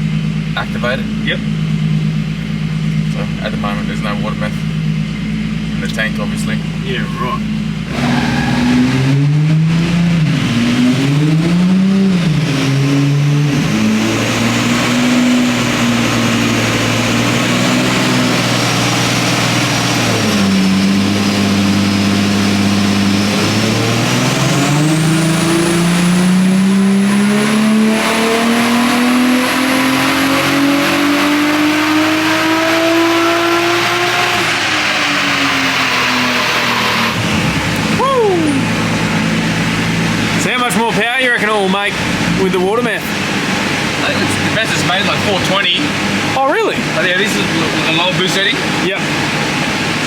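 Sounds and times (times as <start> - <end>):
car engine revving on dyno: 0.0 - 50.0
high turbo whine: 0.0 - 50.0.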